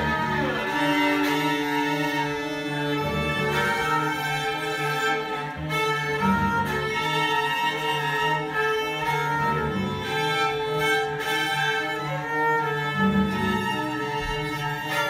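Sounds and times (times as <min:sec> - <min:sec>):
cello repeating short notes: 0:00.0 - 0:15.0
violins holding long bowed notes: 0:00.0 - 0:15.0.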